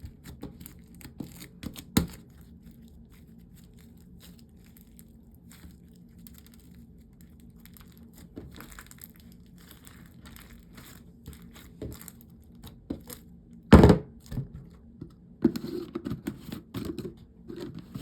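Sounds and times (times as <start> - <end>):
small crackles and crunches: 0.0 - 15.0.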